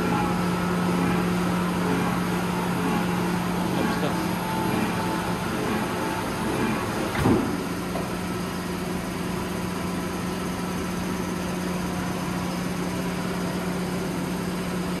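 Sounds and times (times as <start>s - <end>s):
punch press motor humming: 0.0s - 15.0s.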